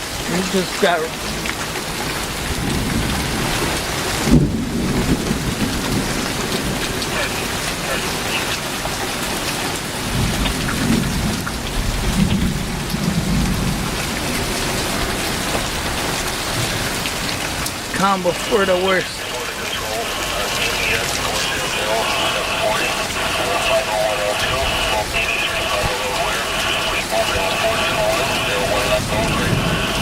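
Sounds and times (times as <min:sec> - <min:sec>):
heavy rain pouring: 0:00.0 - 0:30.0
low thunder rumbling: 0:01.1 - 0:09.0, 0:10.0 - 0:18.5, 0:19.2 - 0:30.0.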